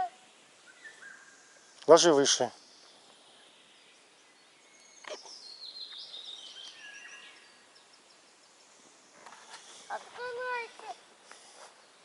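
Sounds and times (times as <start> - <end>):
faint bird song: 0.0 - 12.0.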